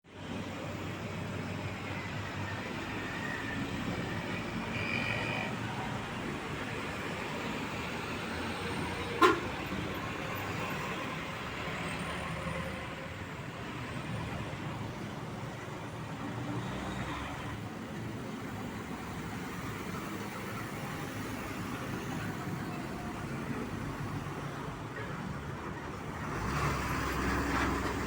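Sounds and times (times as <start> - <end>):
road traffic noise: 0.0 - 28.0
truck engines running: 0.1 - 28.0.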